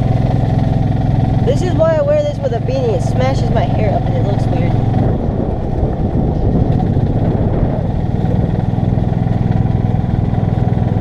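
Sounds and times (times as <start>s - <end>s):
golf cart driving: 0.0s - 11.0s.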